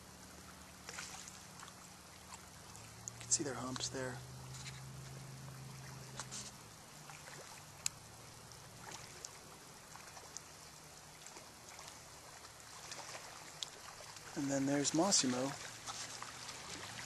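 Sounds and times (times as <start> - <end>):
river flowing over gravel: 0.0 - 17.0.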